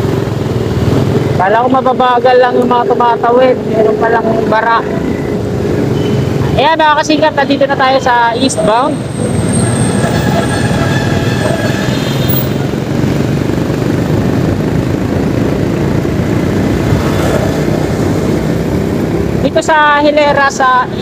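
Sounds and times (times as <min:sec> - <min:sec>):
motorcycle engine droning: 0:00.0 - 0:19.6
road and wind noise: 0:00.0 - 0:21.0
surrounding traffic: 0:00.0 - 0:21.0.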